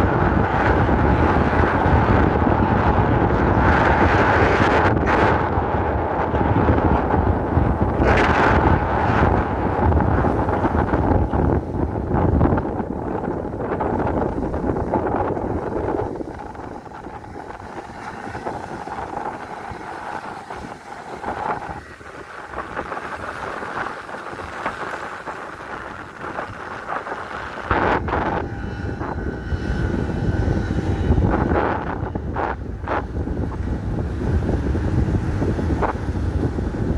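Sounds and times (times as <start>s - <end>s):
boat engine droning: 0.0s - 36.9s
wind buffeting microphone: 0.0s - 36.9s.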